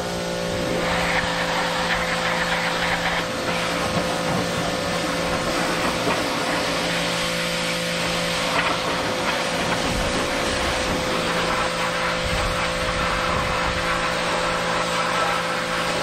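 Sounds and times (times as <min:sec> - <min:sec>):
pressure washer motor hum: 0:00.0 - 0:16.0
water jet hissing: 0:00.4 - 0:16.0.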